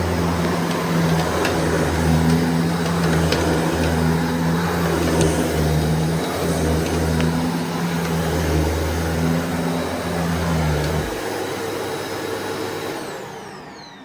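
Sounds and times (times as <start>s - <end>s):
vacuum cleaner air rush: 0.0s - 14.0s
vacuum cleaner low hum: 0.0s - 14.0s.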